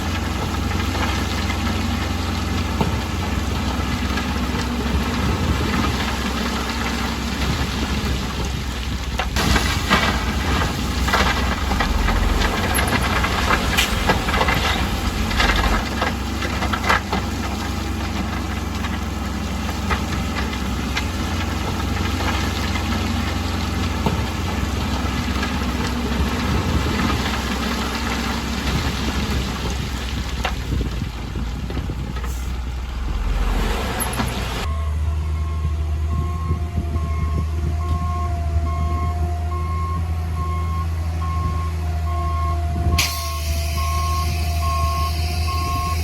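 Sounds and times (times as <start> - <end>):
bulldozer diesel engine running: 0.0 - 46.0.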